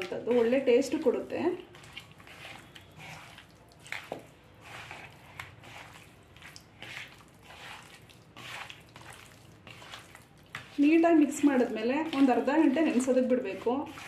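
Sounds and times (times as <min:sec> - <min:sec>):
hands squelching fish in paste: 0:00.0 - 0:14.0.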